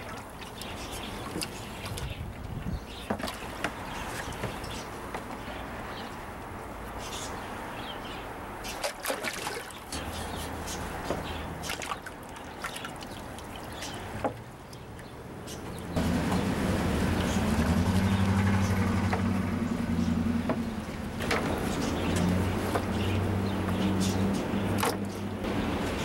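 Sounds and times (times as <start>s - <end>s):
water sloshing in a tub: 0.0s - 26.0s.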